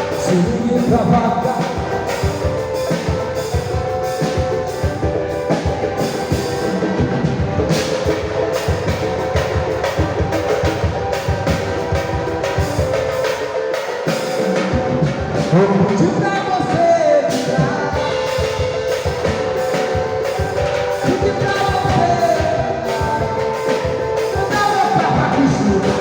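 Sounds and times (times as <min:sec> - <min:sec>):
percussion beat: 0:00.0 - 0:26.0
samba band playing: 0:00.0 - 0:26.0.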